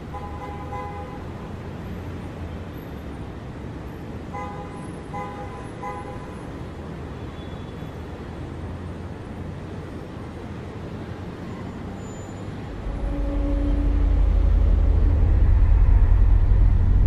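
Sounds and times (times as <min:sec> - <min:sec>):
road traffic hum and rumble: 0:00.0 - 0:17.0.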